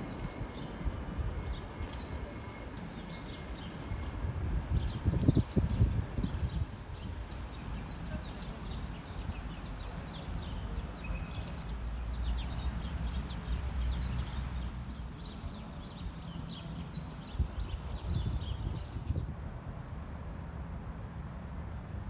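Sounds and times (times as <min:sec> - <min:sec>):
flock of small birds chirping: 0:00.0 - 0:19.2.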